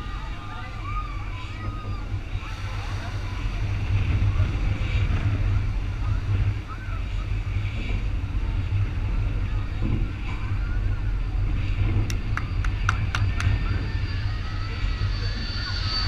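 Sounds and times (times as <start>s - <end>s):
faint crowd voices: 0.0s - 16.0s
wind rumble on microphone: 0.0s - 16.0s.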